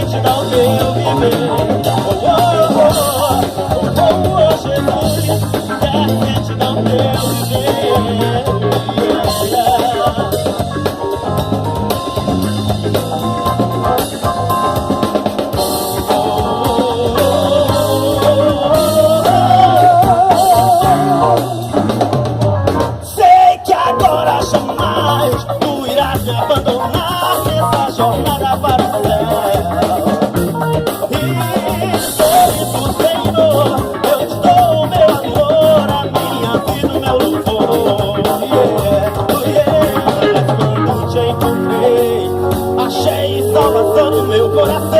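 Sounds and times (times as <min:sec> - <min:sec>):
gospel band playing: 0:00.0 - 0:44.9.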